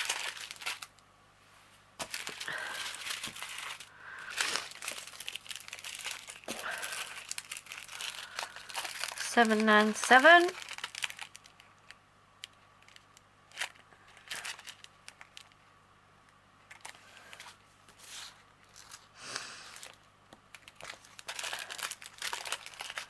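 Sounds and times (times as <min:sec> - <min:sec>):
plastic packets crinkling: 0:00.0 - 0:01.0, 0:02.0 - 0:15.7, 0:16.6 - 0:23.0.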